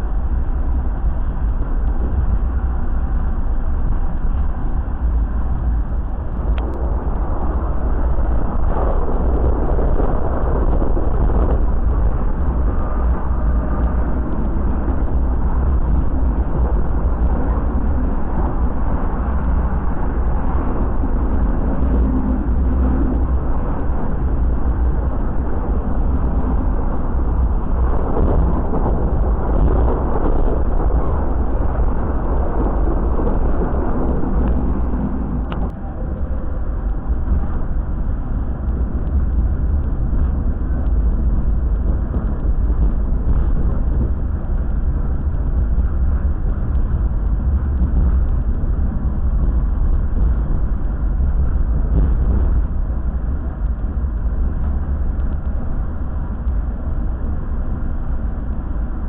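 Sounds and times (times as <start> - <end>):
train running gear rumbling: 0.0 - 59.0.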